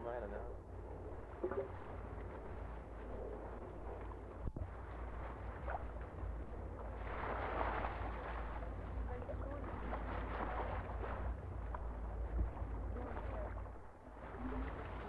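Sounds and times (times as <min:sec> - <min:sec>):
low rumble: 0:00.0 - 0:15.0
wind and water hiss: 0:00.0 - 0:15.0.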